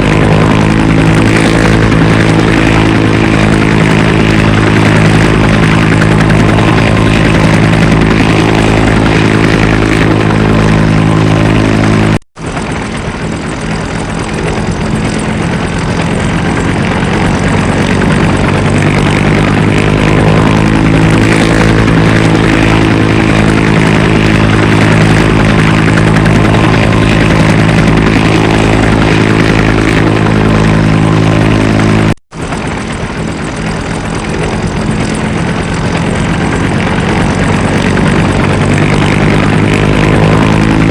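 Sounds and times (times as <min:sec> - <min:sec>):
droning engine hum: 0:00.0 - 0:40.9
helicopter rotor beat: 0:00.0 - 0:40.9.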